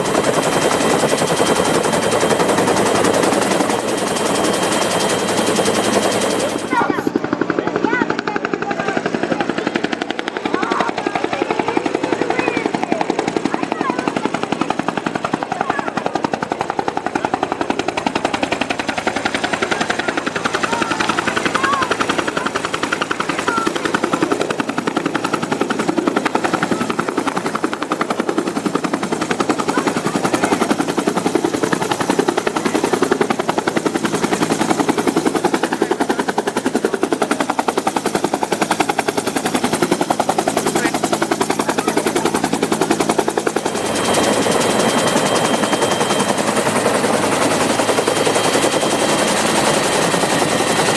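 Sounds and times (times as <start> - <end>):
helicopter engine noise: 0.0 - 50.9
helicopter rotor thumping: 0.0 - 50.9.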